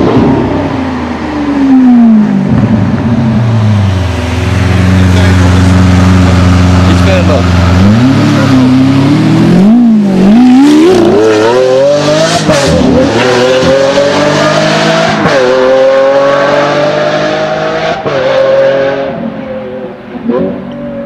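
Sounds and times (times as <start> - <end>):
sports car engine revving and accelerating: 0.0 - 21.0.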